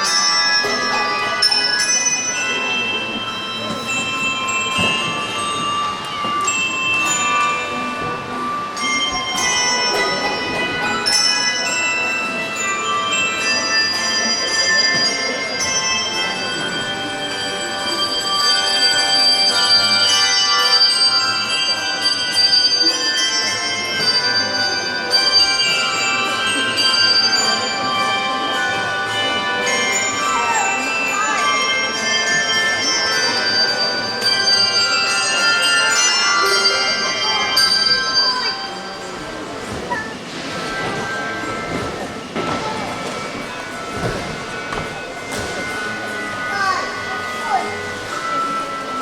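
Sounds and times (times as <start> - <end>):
handbell choir playing: 0.0 - 49.0.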